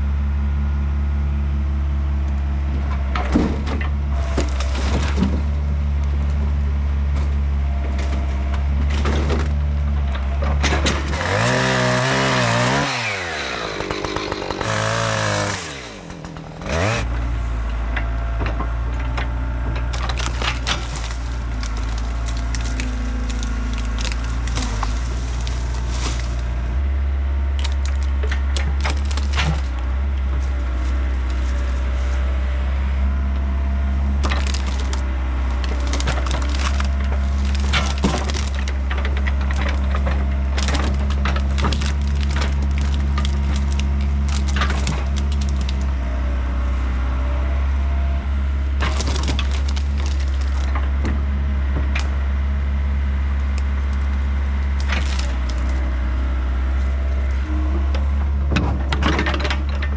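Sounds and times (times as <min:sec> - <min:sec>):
excavator engine drone: 0:00.0 - 0:59.9
wood cracking and splintering: 0:02.8 - 0:59.9.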